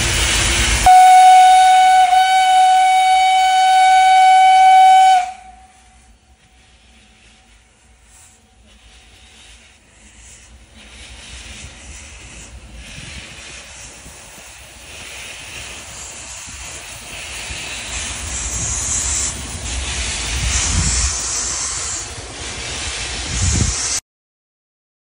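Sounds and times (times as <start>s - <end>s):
locomotive venting steam: 0.0s - 24.0s.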